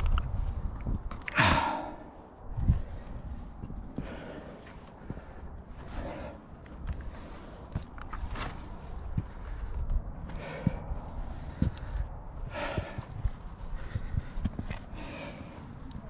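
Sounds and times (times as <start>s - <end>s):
low rumble on microphone: 0.0s - 16.0s
hard breaths: 1.2s - 16.0s.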